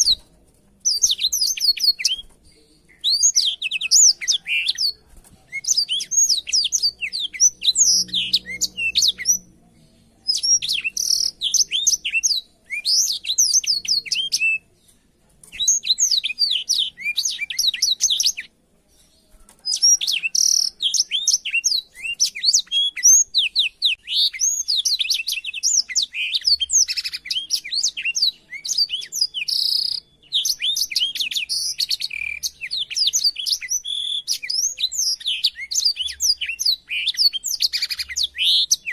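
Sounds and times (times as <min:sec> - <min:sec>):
bird singing twittering song: 0:00.0 - 0:38.9.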